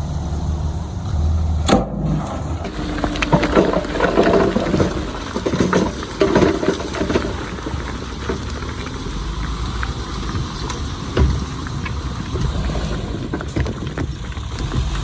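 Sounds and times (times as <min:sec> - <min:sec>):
diesel machinery rumble: 0:00.0 - 0:15.0
machinery clattering and knocking: 0:01.7 - 0:15.0.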